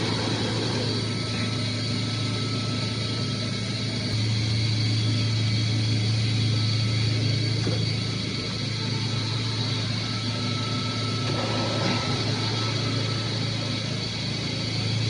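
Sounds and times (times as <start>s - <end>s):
chiller machinery humming: 0.0s - 15.0s
thin high whine: 0.0s - 15.0s.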